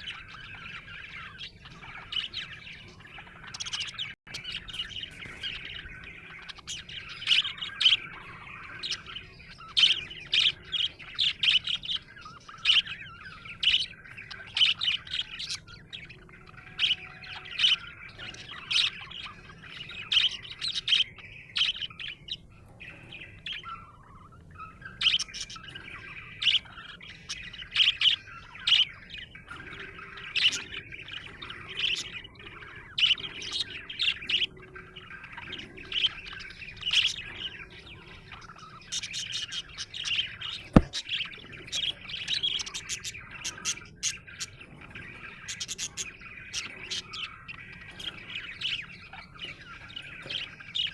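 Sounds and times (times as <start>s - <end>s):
budgerigar chirping and warbling: 0.0s - 50.9s.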